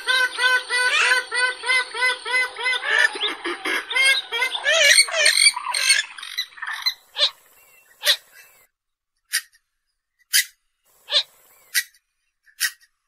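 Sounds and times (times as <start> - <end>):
bird cackling calls: 0.0 - 8.6, 10.3 - 12.9.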